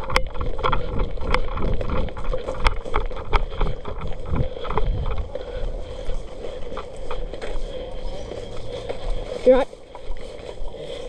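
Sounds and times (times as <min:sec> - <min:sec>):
footsteps on rough ground: 0:00.0 - 0:11.0
wind rumbling on microphone: 0:00.0 - 0:11.0.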